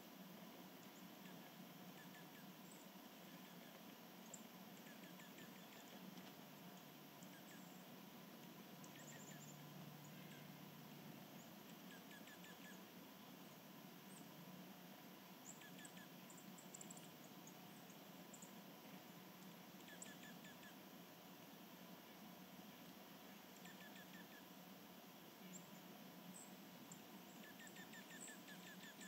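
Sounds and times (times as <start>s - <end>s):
low steady hum: 0.0s - 29.0s
songbirds chirping: 0.0s - 29.0s.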